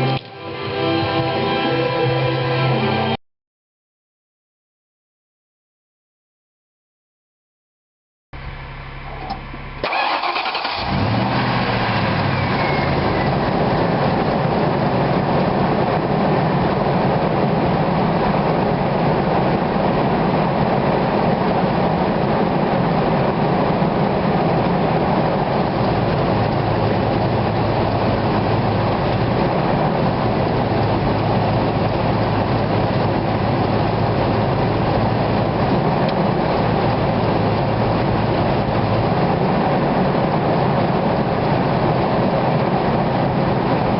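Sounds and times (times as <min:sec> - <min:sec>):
truck engine starting and running: 0:00.0 - 0:03.2, 0:08.4 - 0:43.9.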